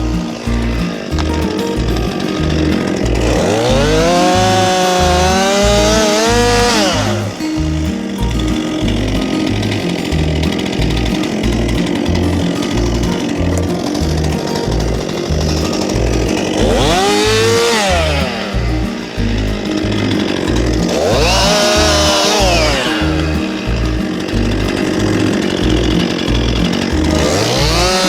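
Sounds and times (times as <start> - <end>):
background music with beat: 0.0 - 28.0
chainsaw revving: 0.0 - 28.0.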